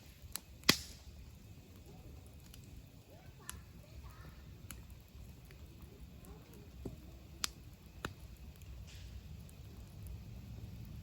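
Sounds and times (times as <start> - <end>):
campfire wood crackling: 0.0 - 11.0
low steady rumble: 0.0 - 11.0
sharp pops of fire: 0.0 - 11.0.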